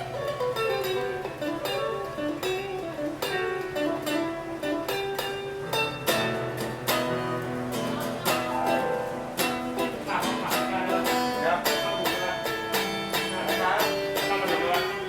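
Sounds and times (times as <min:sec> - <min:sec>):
electric guitar notes and chords: 0:00.0 - 0:15.0.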